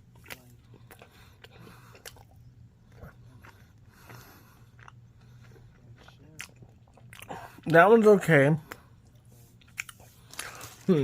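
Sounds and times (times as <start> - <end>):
low room hum: 0.0 - 11.0
person chewing: 0.0 - 11.0.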